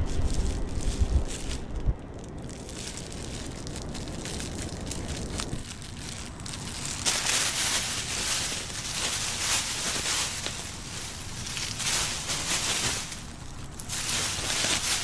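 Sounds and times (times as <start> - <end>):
faint crackles and rustles: 0.0 - 15.0.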